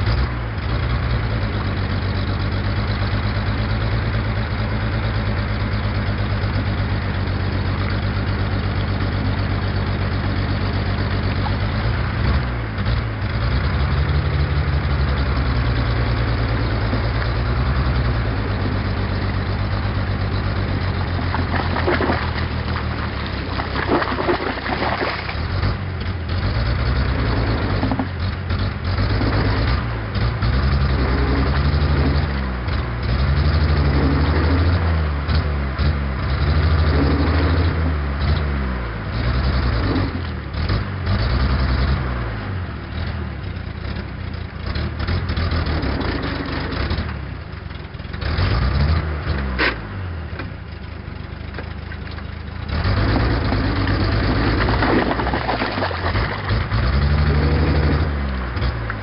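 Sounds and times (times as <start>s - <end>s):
truck engine revving under load: 0.0s - 43.2s, 44.6s - 47.5s, 48.1s - 50.5s, 52.6s - 59.0s.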